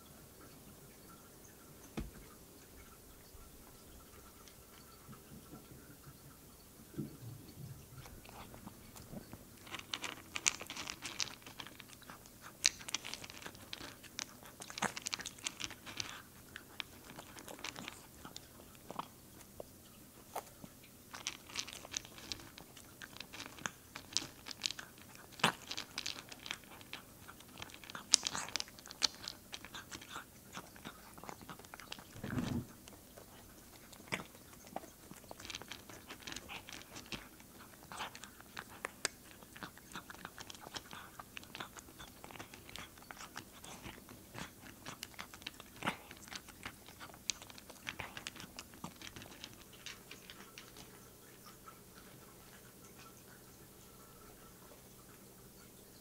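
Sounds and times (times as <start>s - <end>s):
cat crunching dry kibble: 7.9s - 55.2s.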